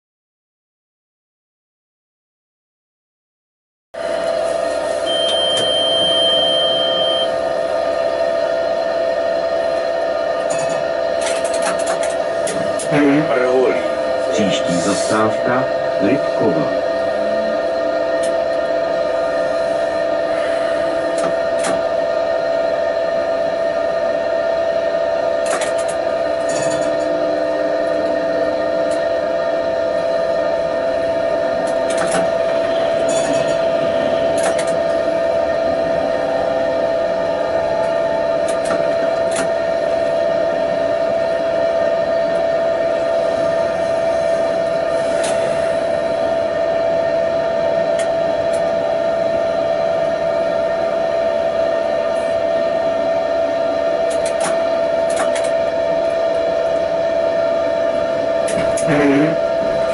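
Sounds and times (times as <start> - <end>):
tram motor whine: 4.0 - 59.9
tram running rumble: 4.0 - 59.9.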